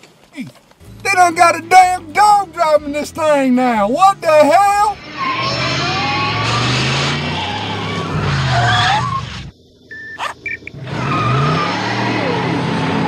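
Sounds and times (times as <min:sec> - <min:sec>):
tyres squealing: 0:00.0 - 0:12.7
car engine revving: 0:00.8 - 0:09.6, 0:10.4 - 0:13.0.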